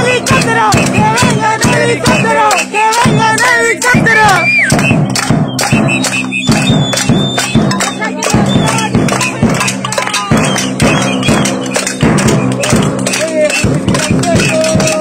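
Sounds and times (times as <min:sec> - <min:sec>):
crowd of voices: 0:00.0 - 0:15.0
fast steady drumbeat: 0:00.0 - 0:15.0.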